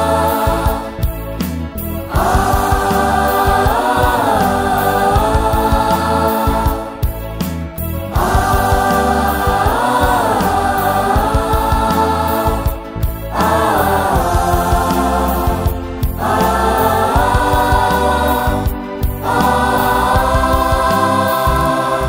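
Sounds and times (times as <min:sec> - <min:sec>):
band accompaniment: 0:00.0 - 0:22.0
mixed choir singing: 0:00.0 - 0:22.0.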